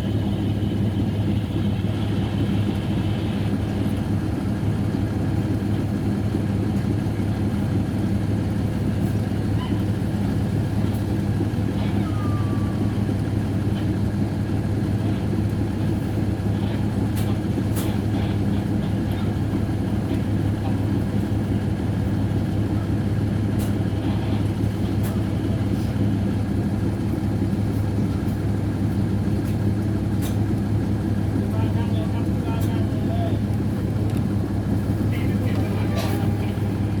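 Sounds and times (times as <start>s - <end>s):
diesel train engine humming: 0.0s - 37.0s.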